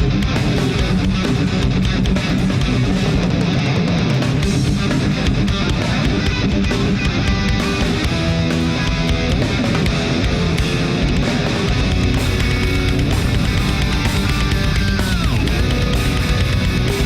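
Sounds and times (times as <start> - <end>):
bass guitar: 0.0 - 17.0
distorted electric guitars: 0.0 - 17.0
drums with rapid hits: 0.0 - 17.0.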